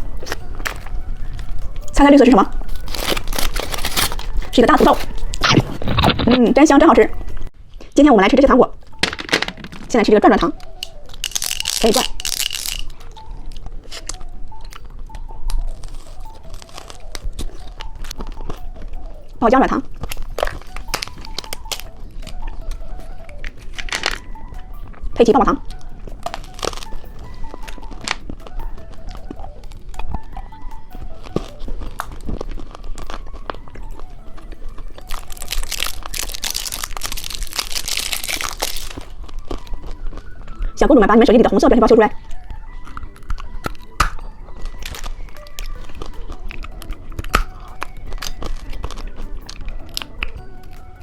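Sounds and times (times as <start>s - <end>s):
plastic candy wrapper crinkling: 0.0s - 8.0s, 8.7s - 51.0s
rustling: 0.0s - 8.0s, 8.7s - 51.0s
chewing and wet mouth sounds: 0.0s - 51.0s.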